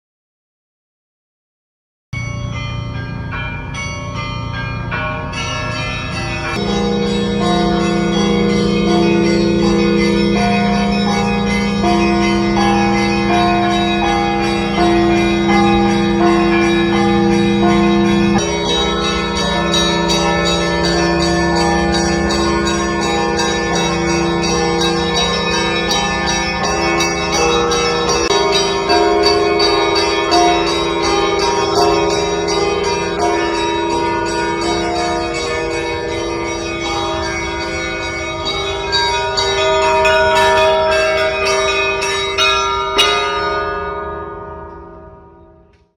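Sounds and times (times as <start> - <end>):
hum of large bells: 2.2 - 45.9
small church bells striking: 2.2 - 45.9.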